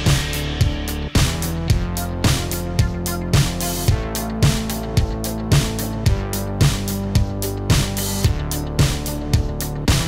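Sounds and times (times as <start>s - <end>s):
instrumental background music: 0.0s - 10.0s
kick drum beat: 0.0s - 10.0s.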